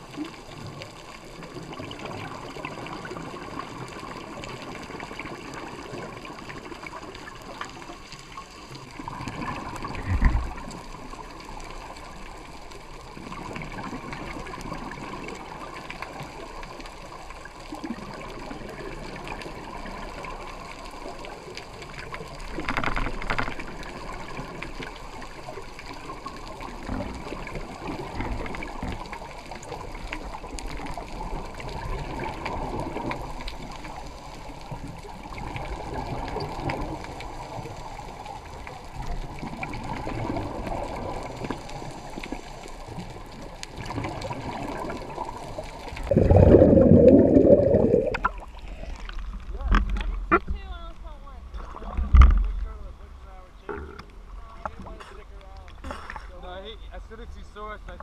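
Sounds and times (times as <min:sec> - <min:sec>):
diver's exhaled bubbles gurgling: 0:00.0 - 0:50.5
underwater water noise: 0:00.0 - 0:58.0.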